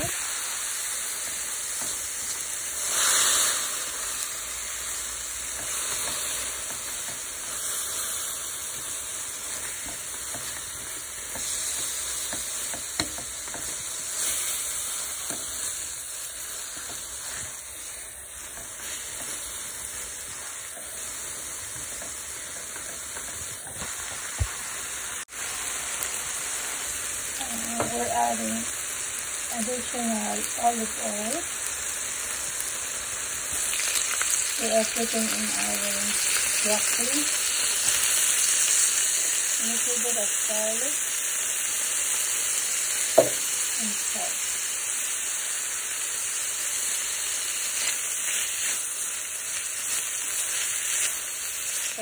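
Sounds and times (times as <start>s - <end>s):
noodles sizzling in a pan: 0.0s - 52.0s.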